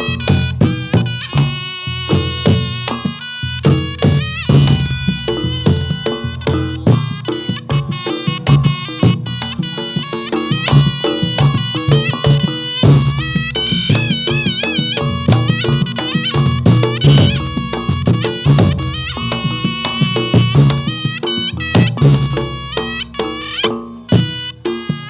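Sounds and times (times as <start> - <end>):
shawm playing reedy melody: 0.0 - 25.0
steady drum beat: 0.0 - 25.0.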